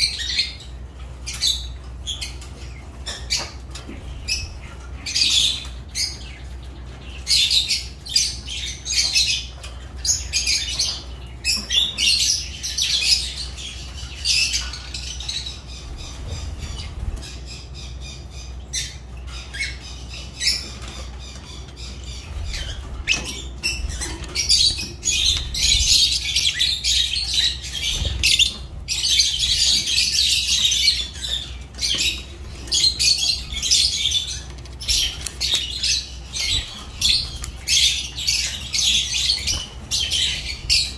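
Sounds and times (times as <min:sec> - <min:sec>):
lovebirds chattering and squawking: 0:00.0 - 0:40.9.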